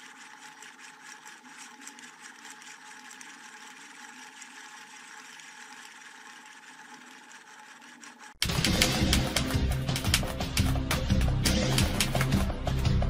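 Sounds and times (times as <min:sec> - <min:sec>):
small machine humming: 0:00.0 - 0:13.0
thin steady whine: 0:00.0 - 0:13.0.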